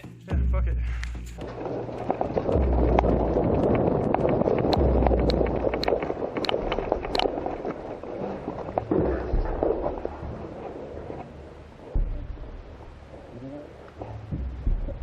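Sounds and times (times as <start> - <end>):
wind buffeting microphone: 1.2 - 15.0.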